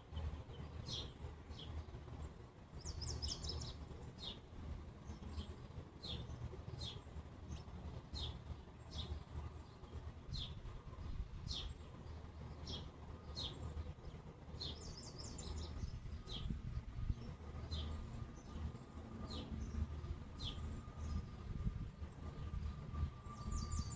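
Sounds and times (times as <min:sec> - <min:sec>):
low steady rumble: 0:00.0 - 0:23.9
bird chirping: 0:00.1 - 0:04.4, 0:05.0 - 0:21.4, 0:22.2 - 0:23.9.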